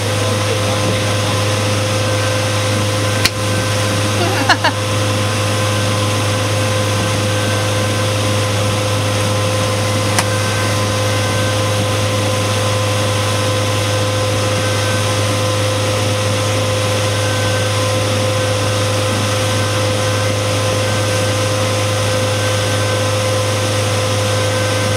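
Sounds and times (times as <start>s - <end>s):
outboard motor running: 0.0s - 24.9s
rushing water of wake: 0.0s - 24.9s.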